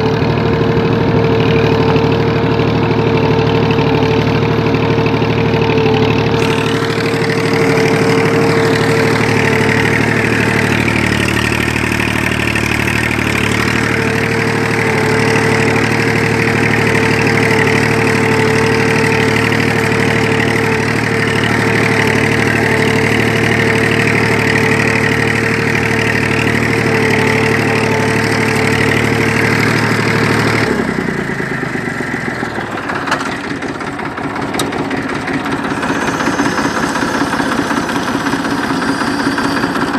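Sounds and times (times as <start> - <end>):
constant whine: 0.0 - 39.9
tractor diesel engine running: 0.0 - 39.9.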